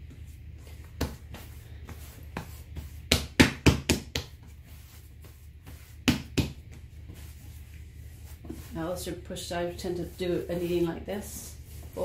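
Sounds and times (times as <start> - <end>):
dough kneaded on wood: 0.0 - 12.0.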